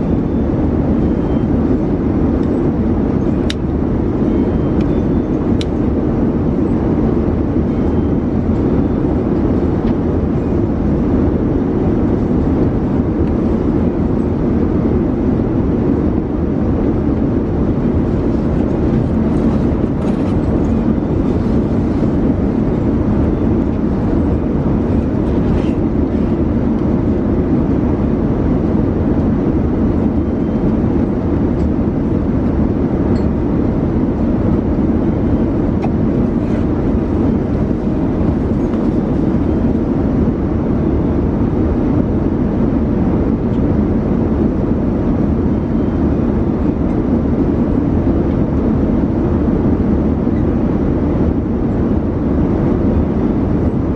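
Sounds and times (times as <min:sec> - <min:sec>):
airliner cabin engine noise: 0:00.0 - 0:53.9.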